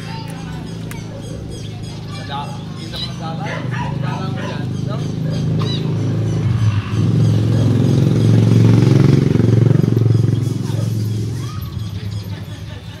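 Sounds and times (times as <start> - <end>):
motorcycle engine passing: 0.0 - 13.0.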